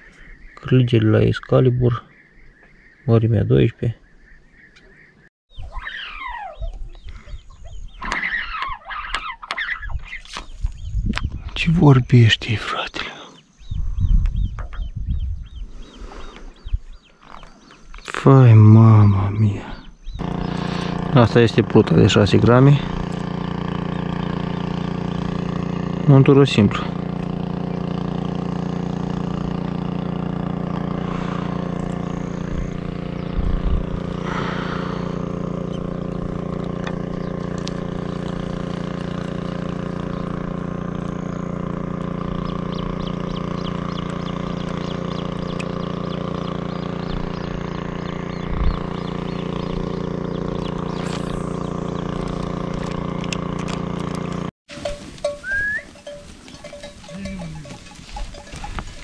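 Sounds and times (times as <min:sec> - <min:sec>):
steady motor hum: 0:05.6 - 0:59.0.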